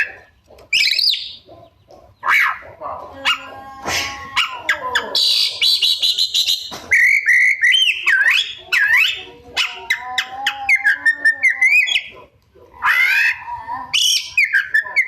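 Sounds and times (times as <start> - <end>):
bird singing varied song: 0.0 - 15.0.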